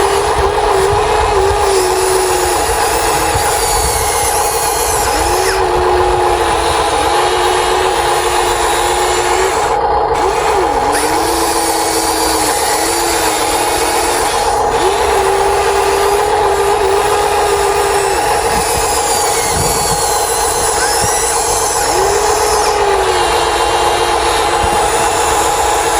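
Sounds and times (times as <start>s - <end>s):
small electric motors whining: 0.0s - 25.9s.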